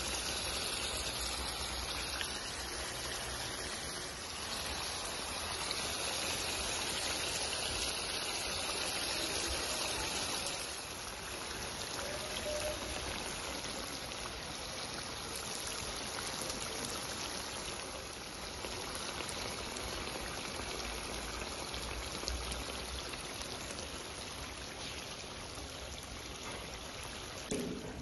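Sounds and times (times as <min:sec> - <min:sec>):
oil sizzling with tiny pops: 0:00.0 - 0:28.0.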